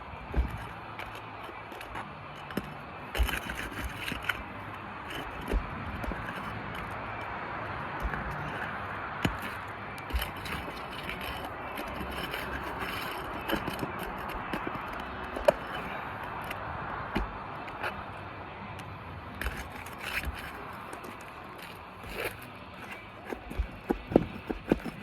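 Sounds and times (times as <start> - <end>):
shingles scraping: 0.0 - 25.0.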